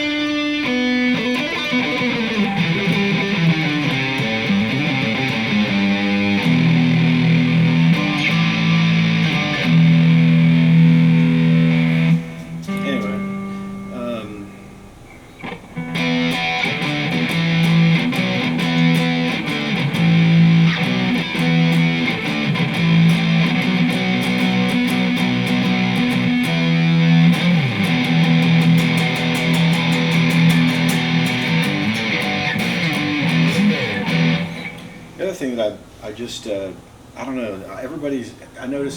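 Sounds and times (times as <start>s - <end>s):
distorted electric guitar riff: 0.0s - 35.2s.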